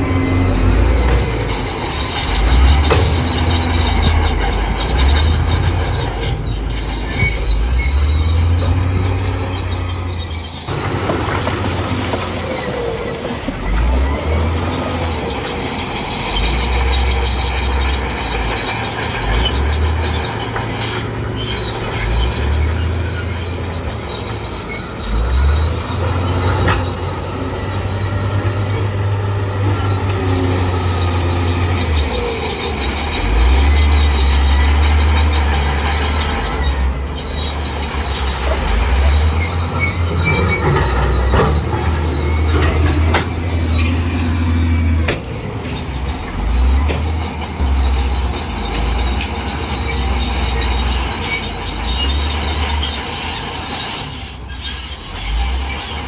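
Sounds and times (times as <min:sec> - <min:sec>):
bulldozer diesel engine rumble: 0:00.0 - 0:56.0
steel tracks squealing and clanking: 0:00.0 - 0:56.0.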